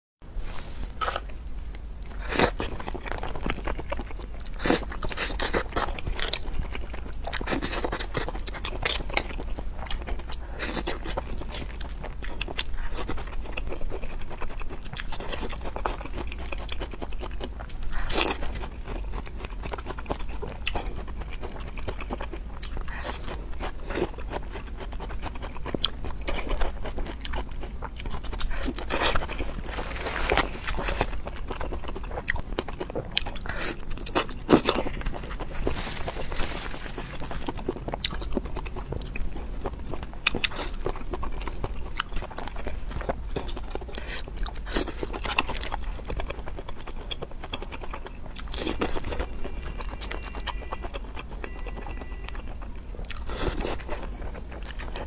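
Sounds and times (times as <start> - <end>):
person crunching and chewing: 0.5 - 55.0.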